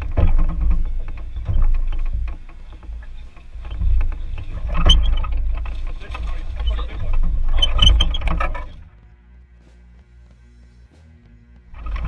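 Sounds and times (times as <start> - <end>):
heavy low rumble: 0.0 - 12.0.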